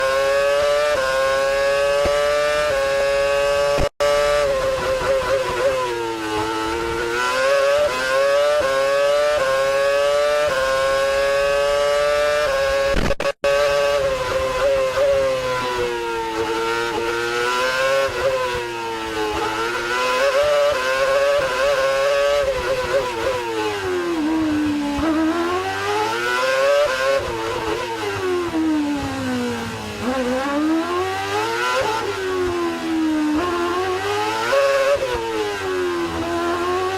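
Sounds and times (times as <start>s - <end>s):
racing car engine at high revs: 0.0s - 36.9s.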